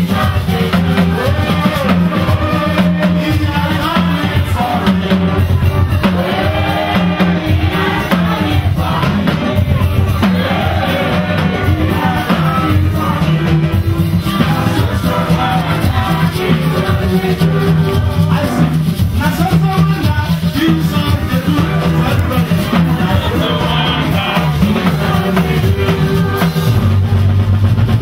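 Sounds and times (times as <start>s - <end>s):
choir and congregation singing: 0.0s - 18.8s, 20.8s - 27.1s
bass line: 0.0s - 28.0s
drums: 0.0s - 28.0s.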